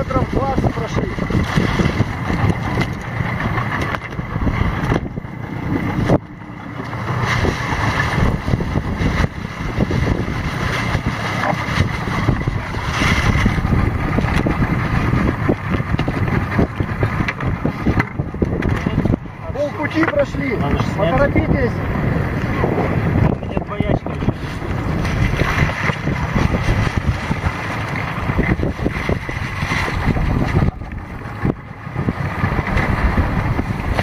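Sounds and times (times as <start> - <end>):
outboard motor running: 0.0 - 34.0
water splashing against hull: 0.0 - 34.0
wind buffeting microphone: 0.0 - 34.0.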